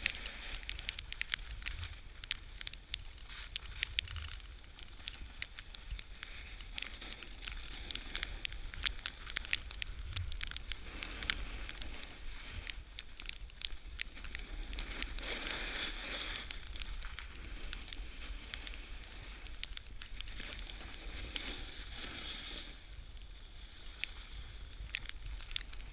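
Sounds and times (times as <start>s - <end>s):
snow crackling on camera housing: 0.0s - 25.9s
wind hiss: 0.0s - 25.9s.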